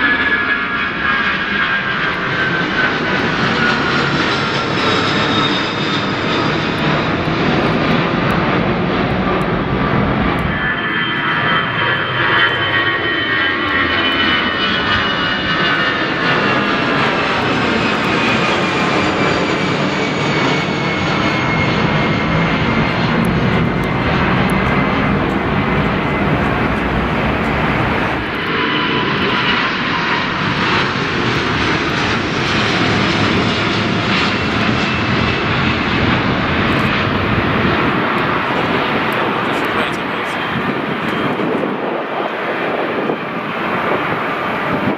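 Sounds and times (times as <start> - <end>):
jet engines whining and roaring: 0.0 - 44.9.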